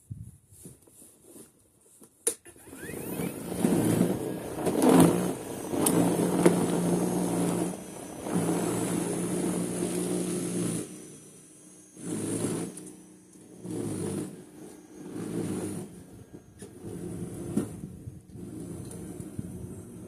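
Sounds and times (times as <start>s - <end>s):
snow thrower motor hum: 2.5s - 20.0s.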